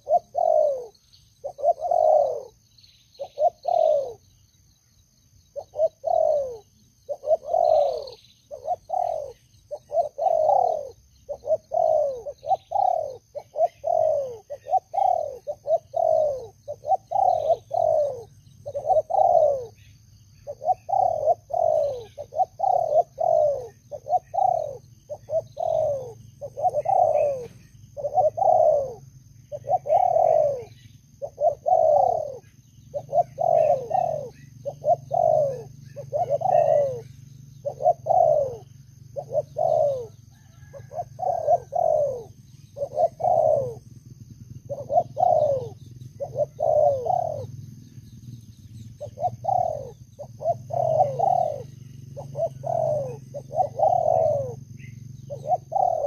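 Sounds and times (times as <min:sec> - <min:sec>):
doves cooing: 0:00.0 - 0:56.0.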